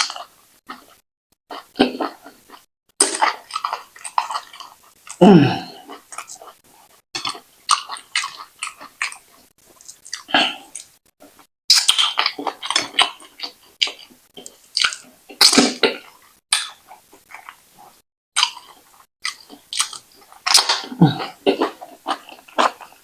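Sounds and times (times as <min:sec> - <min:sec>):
wet chewing mouth sounds: 0:00.0 - 0:23.0.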